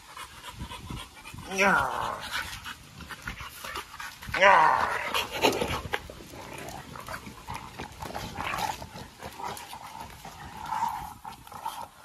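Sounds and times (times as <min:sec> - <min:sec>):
dog noises: 0:00.0 - 0:12.0
dogs play-wrestling: 0:00.0 - 0:12.0.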